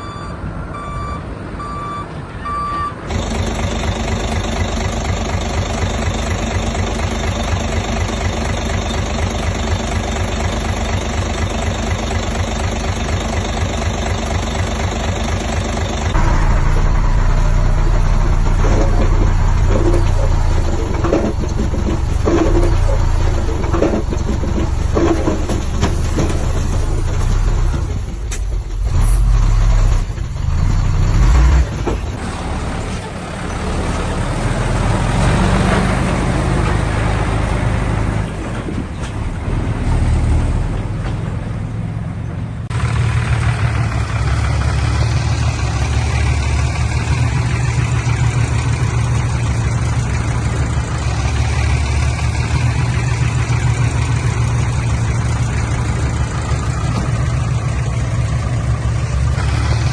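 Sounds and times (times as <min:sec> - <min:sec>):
diesel machinery engine rumble: 0:00.0 - 0:59.9.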